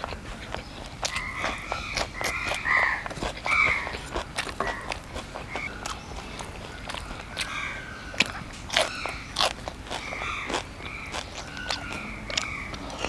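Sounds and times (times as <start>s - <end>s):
crunchy bites and chewing: 0.0s - 13.0s.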